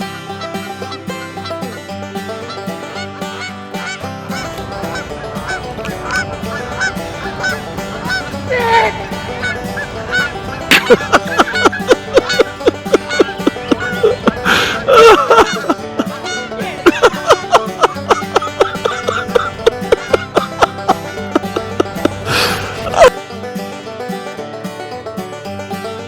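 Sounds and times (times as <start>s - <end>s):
banjo music: 0.0s - 26.0s
geese honking: 0.0s - 26.0s.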